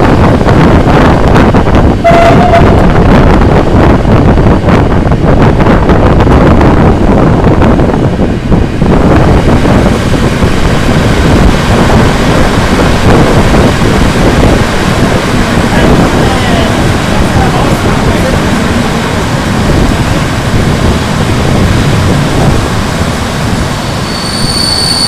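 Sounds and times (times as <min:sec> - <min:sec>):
train rolling noise: 0:00.0 - 0:25.0
wind buffeting microphone: 0:00.0 - 0:25.0.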